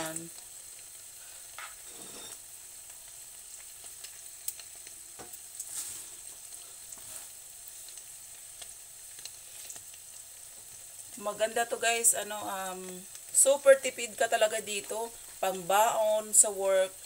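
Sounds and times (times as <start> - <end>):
omelette sizzling in a pan: 0.0 - 17.0.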